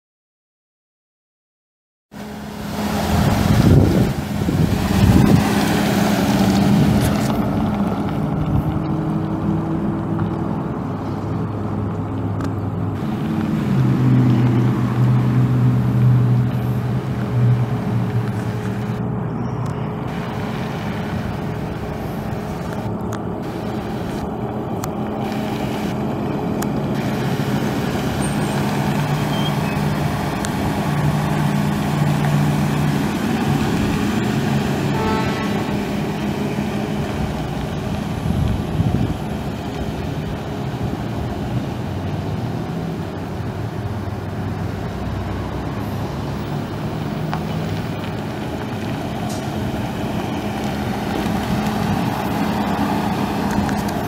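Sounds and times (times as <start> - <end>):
truck engine idling: 2.2 - 54.0.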